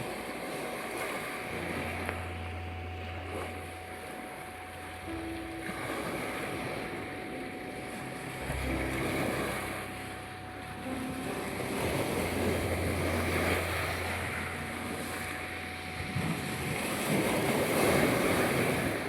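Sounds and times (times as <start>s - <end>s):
soft held music notes: 0.0s - 19.0s
steady tone: 0.0s - 19.0s
waves washing onto beach: 0.0s - 19.0s.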